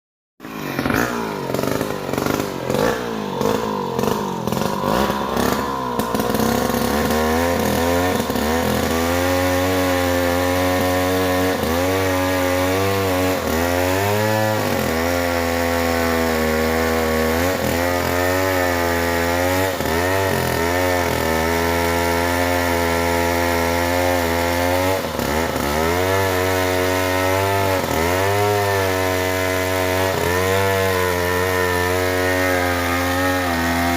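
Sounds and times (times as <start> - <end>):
chainsaw cutting wood: 0.4 - 33.9.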